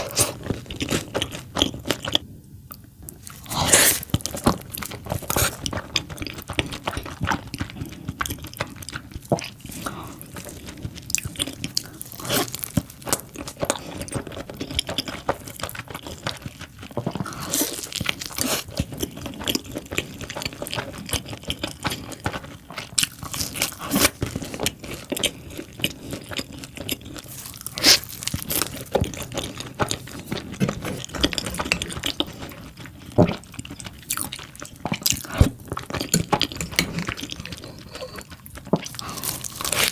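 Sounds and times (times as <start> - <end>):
crunchy chewing: 3.1 - 39.9.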